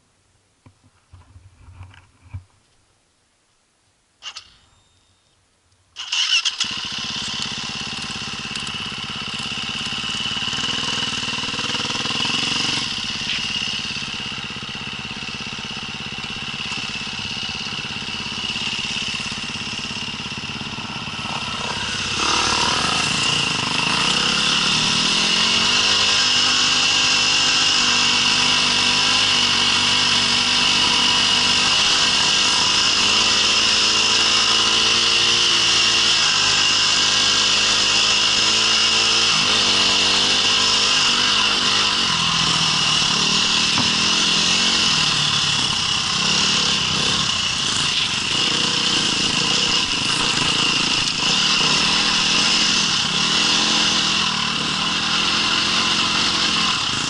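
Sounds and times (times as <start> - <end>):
off-road vehicle engine running: 6.0 - 57.0.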